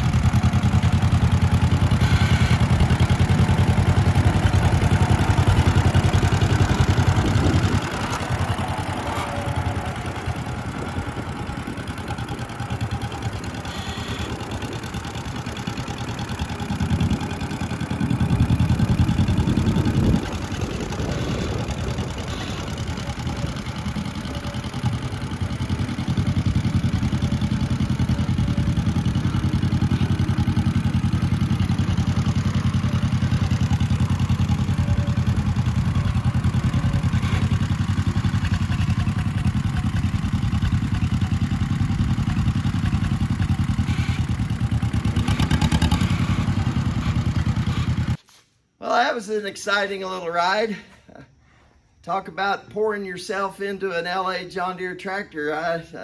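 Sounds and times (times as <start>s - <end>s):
tractor engine running: 0.0s - 48.2s.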